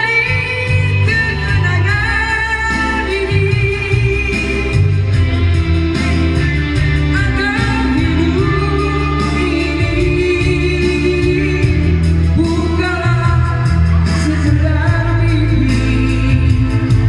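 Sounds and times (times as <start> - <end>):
pop ballad with band: 0.0 - 17.0.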